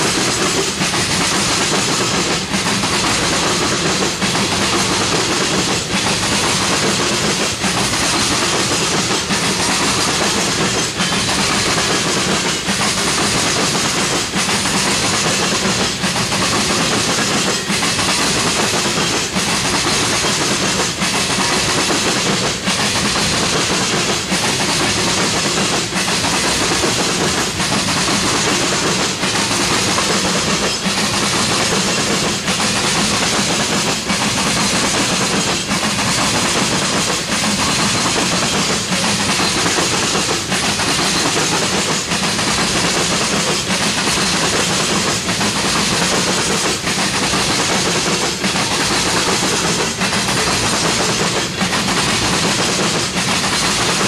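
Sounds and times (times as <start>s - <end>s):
train wheels rushing on rails: 0.0s - 54.0s
wheels clicking over rail joints: 0.0s - 54.0s.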